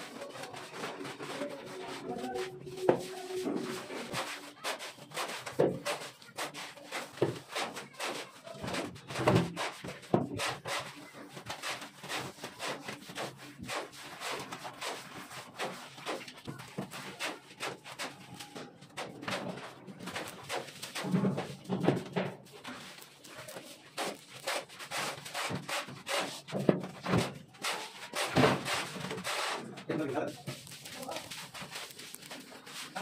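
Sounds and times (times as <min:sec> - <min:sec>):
hand float scraping plaster: 0:00.0 - 0:33.0.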